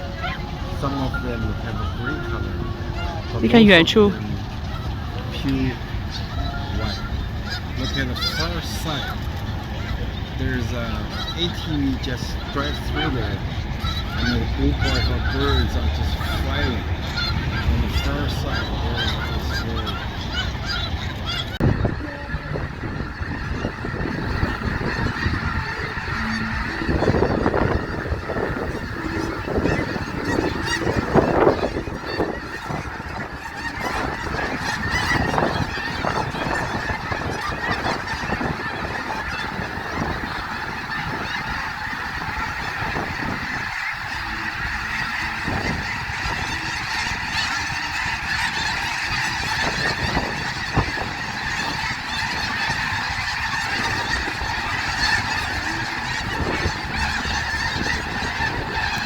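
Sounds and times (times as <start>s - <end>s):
geese honking: 0.0s - 59.0s.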